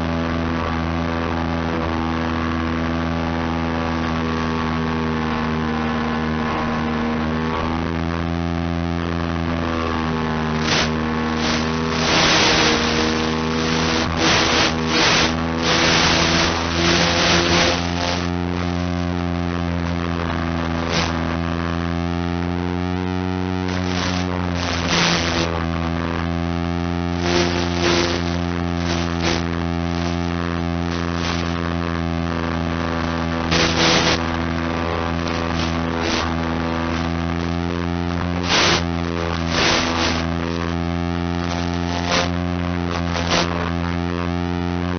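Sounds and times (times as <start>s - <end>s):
crackling static bursts: 0.0s - 44.9s
electrical buzz: 0.0s - 44.9s.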